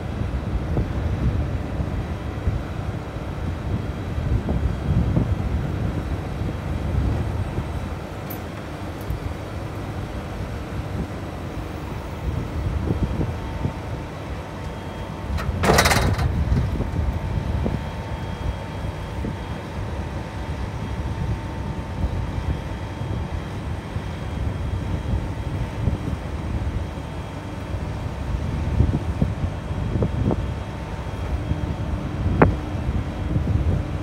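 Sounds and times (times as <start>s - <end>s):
diesel engine running: 0.0s - 34.0s
faint hydraulic whine: 4.6s - 33.8s.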